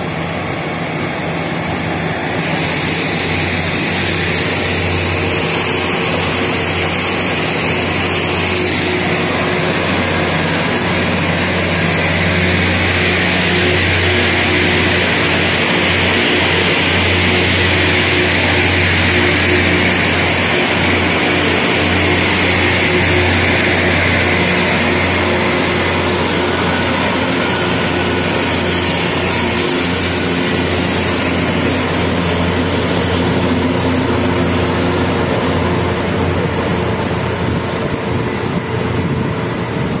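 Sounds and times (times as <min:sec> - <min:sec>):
diesel engine hum: 0:00.0 - 0:40.0
rail grinding machine grinding: 0:00.0 - 0:40.0.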